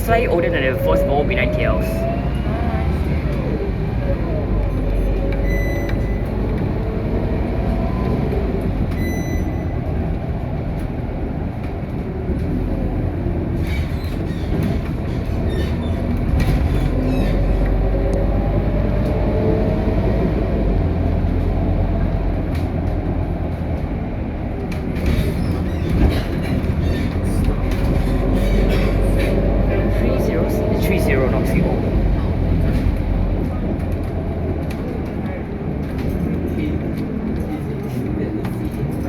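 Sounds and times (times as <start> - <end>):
bus engine drone: 0.0 - 39.0
road rumble: 0.0 - 39.0.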